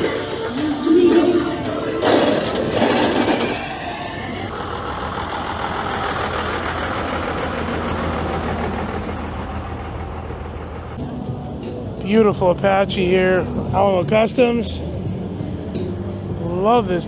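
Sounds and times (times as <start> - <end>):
uneven engine sounds: 0.0 - 17.0
vehicle engine running: 0.0 - 17.0.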